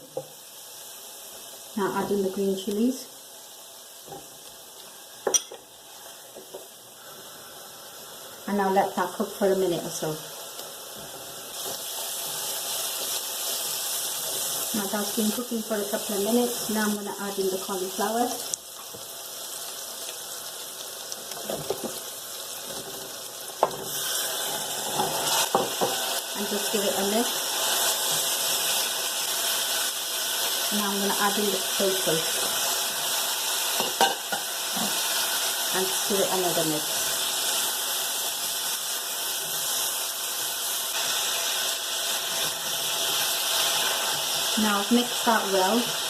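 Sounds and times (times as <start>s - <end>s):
pan sizzling: 0.0s - 46.0s.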